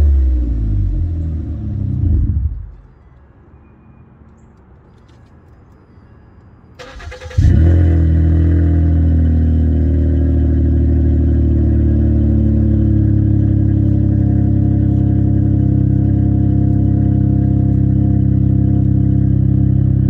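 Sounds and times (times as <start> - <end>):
car engine starting and idling: 0.0 - 2.9, 6.7 - 20.0.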